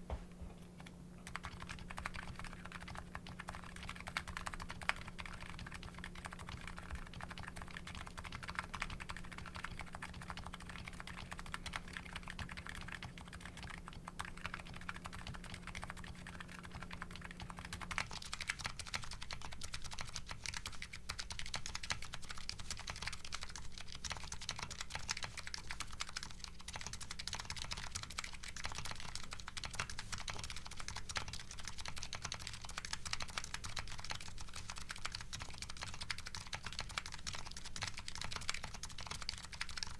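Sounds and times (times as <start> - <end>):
fast keyboard typing clacks: 1.2 - 39.9.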